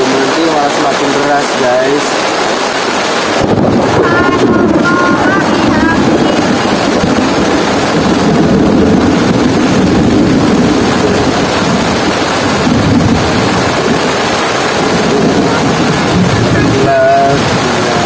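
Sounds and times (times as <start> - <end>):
heavy rain on a tarp: 0.0 - 18.0.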